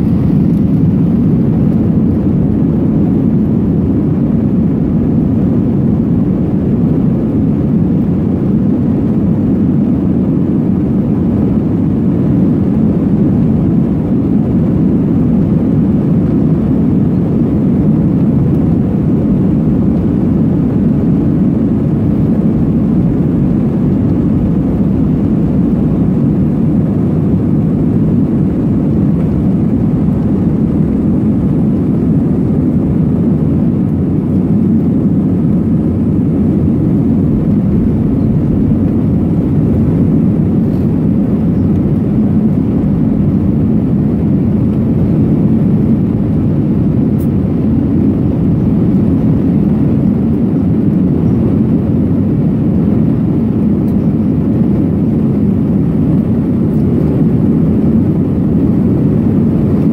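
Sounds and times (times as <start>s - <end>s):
jet engines at takeoff thrust: 0.0s - 59.9s.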